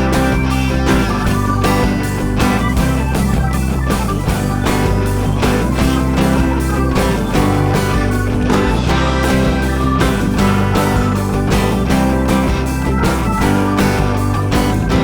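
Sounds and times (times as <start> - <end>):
bass guitar: 0.0 - 15.0
drums keeping a steady beat: 0.0 - 15.0
electric guitar: 0.0 - 15.0
keyboards: 0.0 - 15.0.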